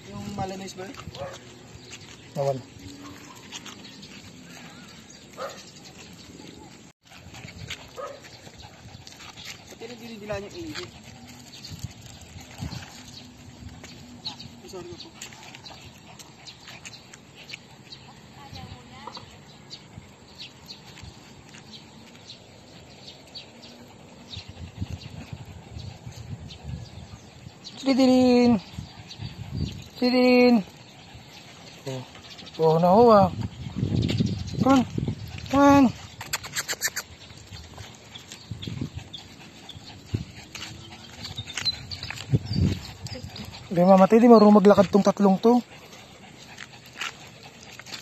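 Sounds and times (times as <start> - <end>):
outdoor background noise: 0.0 - 48.0
small birds chirping: 0.0 - 48.0.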